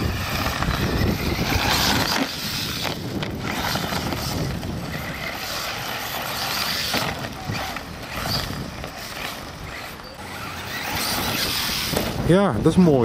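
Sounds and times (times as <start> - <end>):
toy truck motor and tyres: 0.0 - 13.0.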